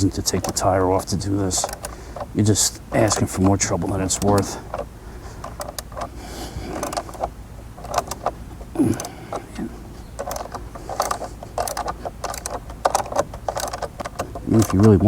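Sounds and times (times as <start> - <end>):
socket ratchet clicking: 0.0 - 15.0.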